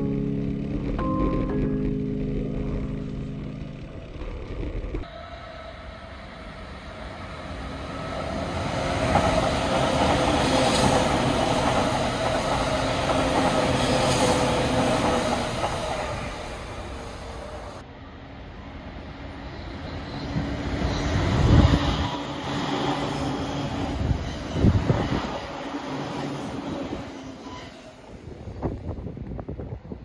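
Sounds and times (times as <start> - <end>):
electric train passing: 0.0 - 30.0.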